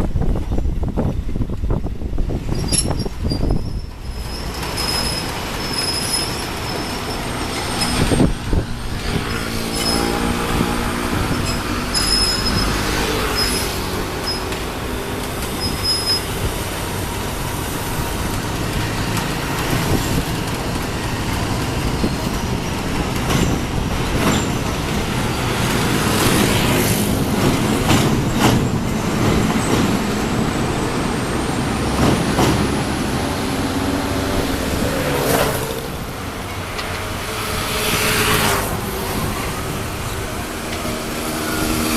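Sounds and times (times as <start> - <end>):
train rumbling across bridge: 0.0 - 41.9
sharp train clacks: 2.4 - 41.9.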